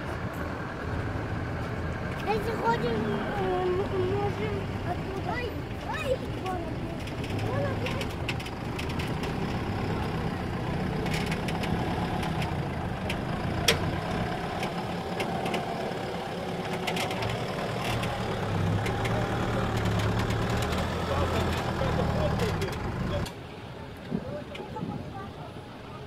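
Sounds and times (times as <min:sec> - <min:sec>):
suv engine running at low revs: 0:00.0 - 0:25.8.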